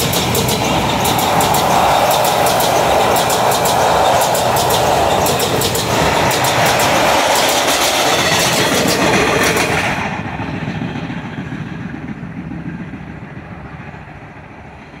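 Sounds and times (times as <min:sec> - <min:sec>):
train wheels clattering over rail joints: 0:00.0 - 0:13.2
train rumble: 0:00.0 - 0:15.0.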